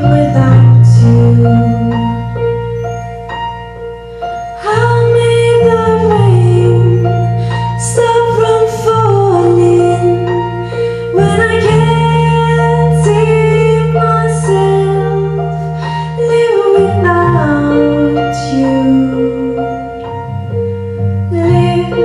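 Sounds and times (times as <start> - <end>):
woman singing: 0.0 - 2.4, 4.6 - 20.0, 21.3 - 22.0
bass: 0.0 - 22.0
piano: 0.0 - 22.0.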